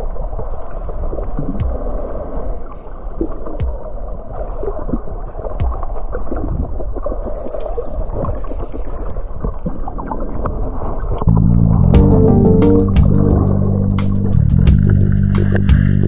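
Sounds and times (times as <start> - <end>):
muffled underwater rush: 0.0 - 16.0.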